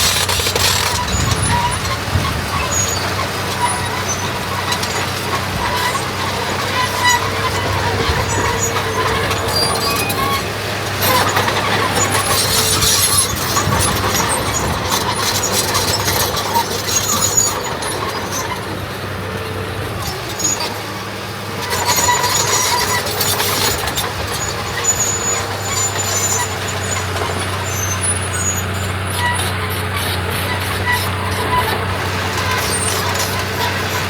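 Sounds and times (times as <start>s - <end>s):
high squeaks: 0.0s - 18.9s, 20.0s - 34.0s
diesel engine running: 0.0s - 34.0s
rushing clattering: 0.0s - 34.0s.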